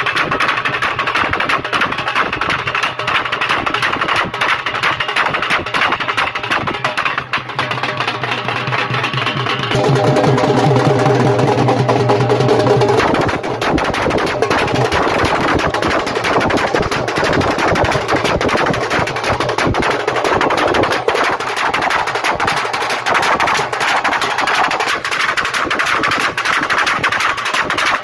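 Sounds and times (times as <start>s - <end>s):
drum beaten in fast rolls: 0.0s - 28.0s.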